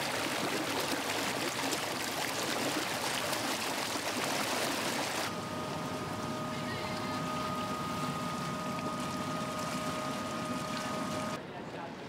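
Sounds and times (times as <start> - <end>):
wake water rushing and splashing: 0.0 - 11.4.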